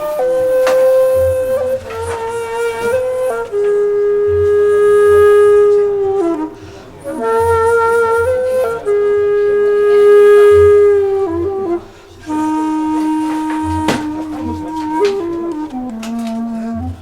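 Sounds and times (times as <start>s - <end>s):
flute-like wind instrument: 0.0s - 17.0s.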